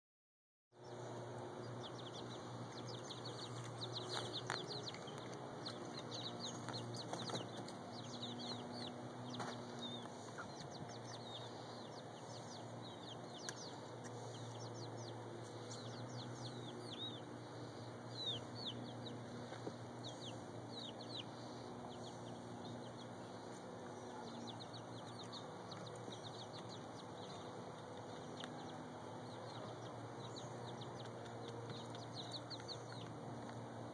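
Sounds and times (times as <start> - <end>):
chicks peeping: 0.8 - 33.9
steady low hum: 0.8 - 33.9.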